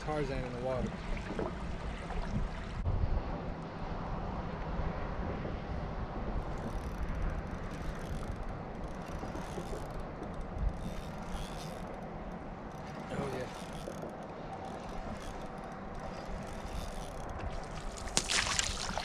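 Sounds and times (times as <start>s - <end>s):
water lapping against hull: 0.0s - 3.8s, 4.4s - 19.0s
wind buffeting microphone: 0.0s - 19.0s.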